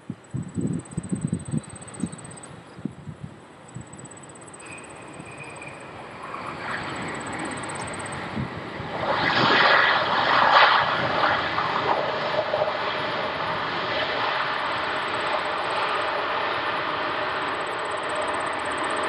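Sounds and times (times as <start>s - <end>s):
jet engines in reverse thrust: 3.5s - 19.0s.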